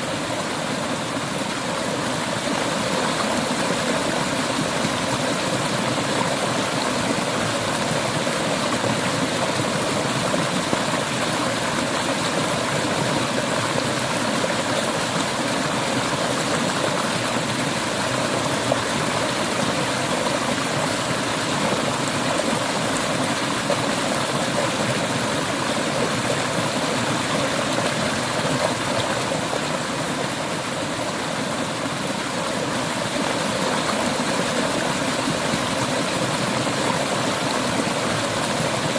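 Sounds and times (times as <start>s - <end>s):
river water flowing and gurgling: 0.0s - 38.9s.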